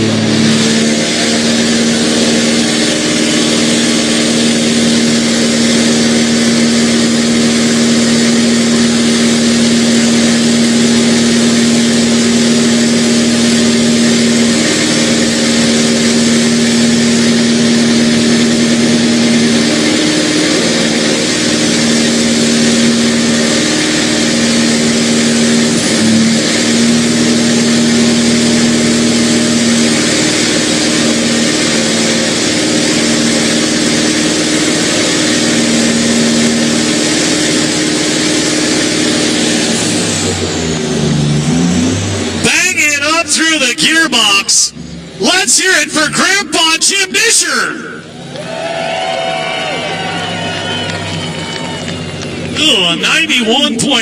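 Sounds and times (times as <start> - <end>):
truck diesel engine revving: 0.0 - 54.0.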